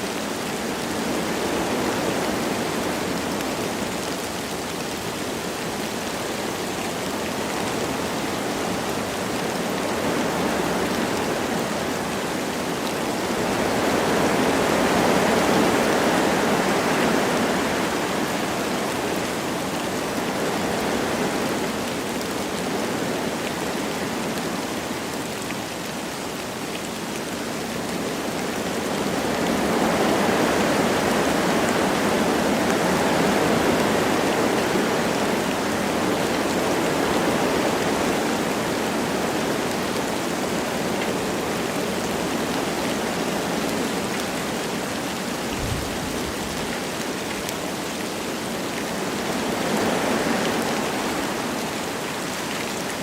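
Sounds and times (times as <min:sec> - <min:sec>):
light rain falling: 0:00.0 - 0:53.0
wind through trees: 0:00.0 - 0:53.0.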